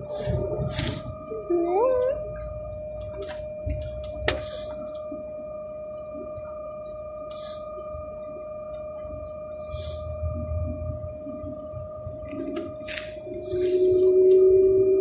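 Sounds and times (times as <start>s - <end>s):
steady ringing tone: 0.0s - 15.0s.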